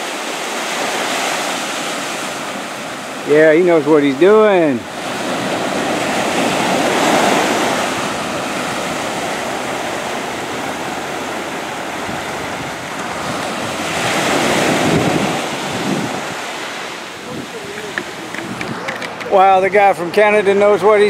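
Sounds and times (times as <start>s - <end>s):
ocean surf washing on shore: 0.0s - 21.0s
wind buffeting microphone: 1.0s - 19.9s.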